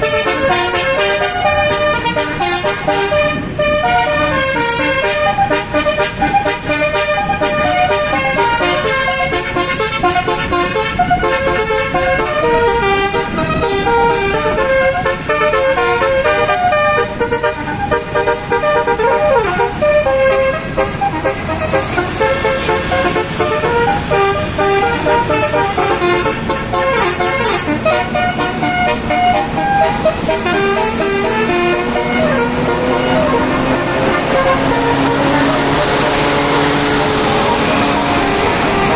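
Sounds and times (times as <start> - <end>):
musical bus horn tune: 0.0 - 38.9.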